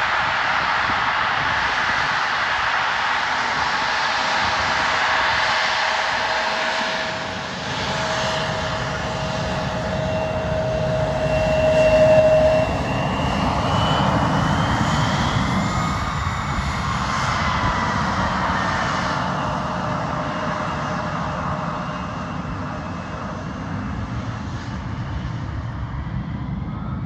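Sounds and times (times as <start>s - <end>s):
airplane engine roaring: 0.0s - 27.0s.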